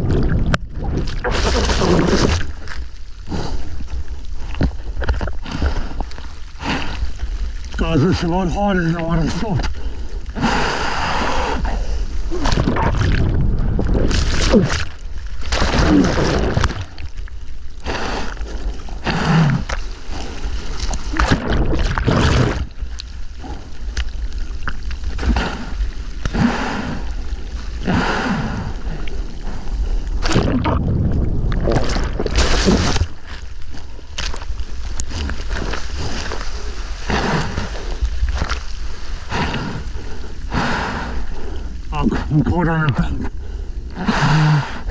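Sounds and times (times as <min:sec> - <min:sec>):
water splashing and rushing: 0:00.0 - 0:44.9.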